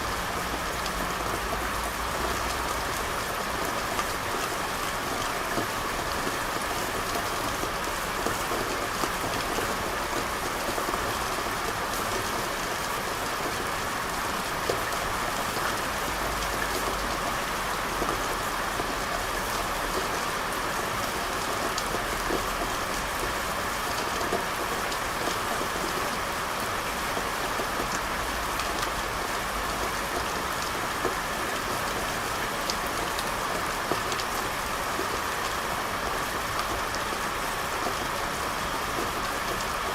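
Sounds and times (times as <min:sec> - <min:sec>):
rain falling on a street: 0:00.0 - 0:39.9.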